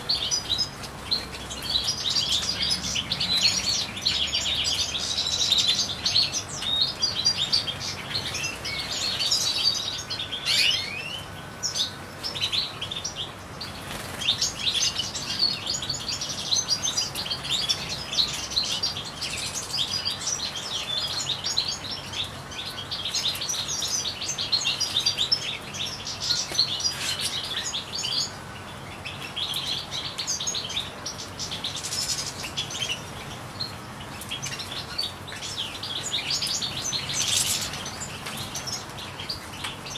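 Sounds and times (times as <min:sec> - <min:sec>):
goldfinches singing and twittering: 0:00.0 - 0:39.9.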